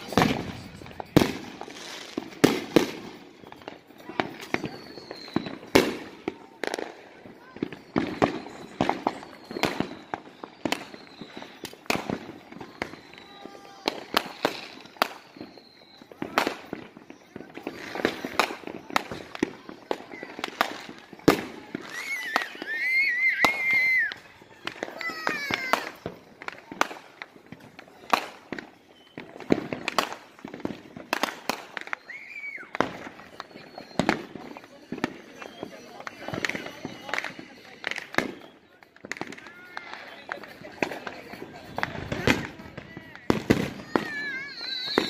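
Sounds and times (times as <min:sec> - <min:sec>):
fireworks cracks and bangs: 0:00.0 - 0:45.0.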